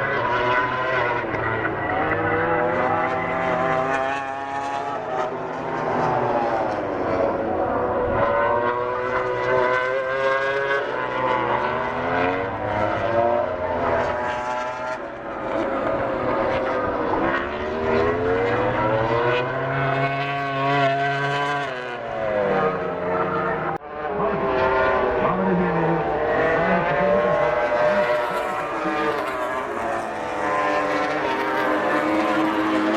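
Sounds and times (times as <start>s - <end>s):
racing motorcycle engines: 0.0s - 32.9s.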